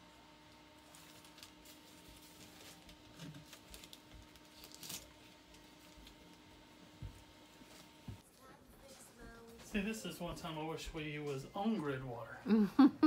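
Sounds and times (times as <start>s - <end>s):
steady low hum: 0.0s - 13.0s
insulation rustling and crinkling: 0.4s - 11.6s.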